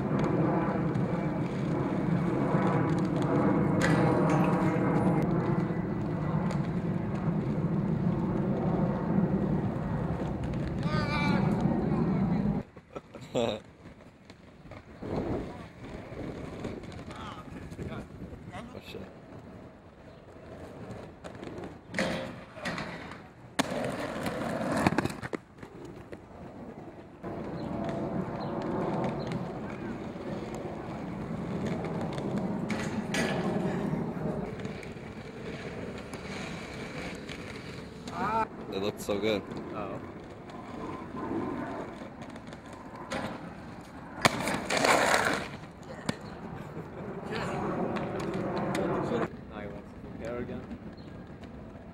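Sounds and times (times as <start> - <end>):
skate wheels rolling on asphalt: 0.0 - 51.9.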